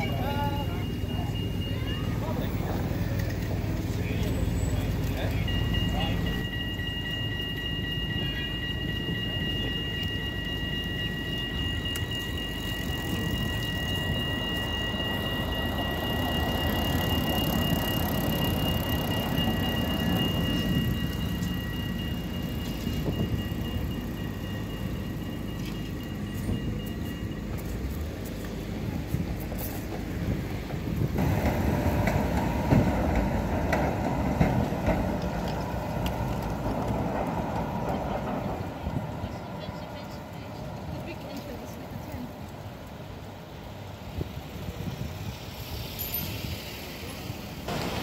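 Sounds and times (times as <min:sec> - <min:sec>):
steady high-pitched tones: 0:00.0 - 0:48.0
tram rumbling over rails: 0:00.0 - 0:48.0.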